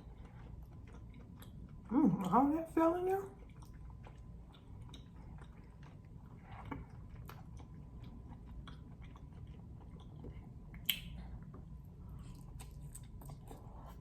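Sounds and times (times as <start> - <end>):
wet chewing sounds: 0.0 - 2.5, 3.4 - 14.0.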